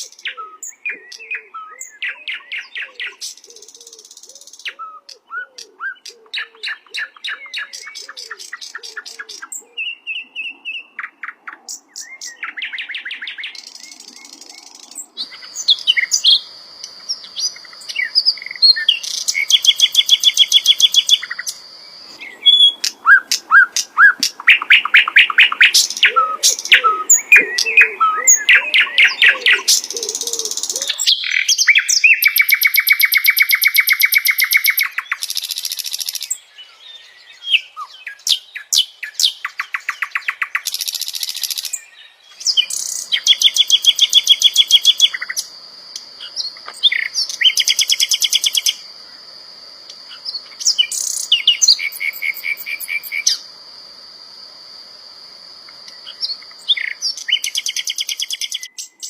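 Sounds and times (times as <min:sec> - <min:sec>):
flycatcher singing trills and whistles: 0:00.0 - 0:48.8, 0:50.1 - 0:53.4, 0:55.8 - 0:59.0.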